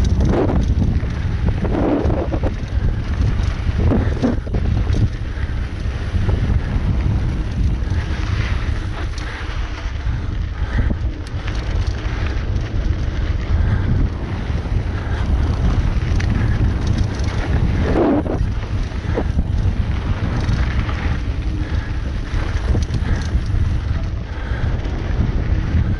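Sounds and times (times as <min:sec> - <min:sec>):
bike clicks and rattles: 0:00.0 - 0:25.9
wind buffeting microphone: 0:00.0 - 0:25.9.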